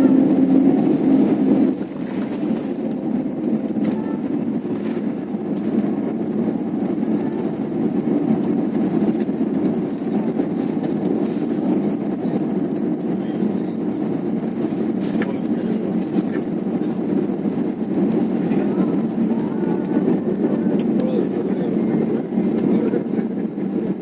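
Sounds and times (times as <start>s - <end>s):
airliner landing rumble: 0.0s - 24.0s.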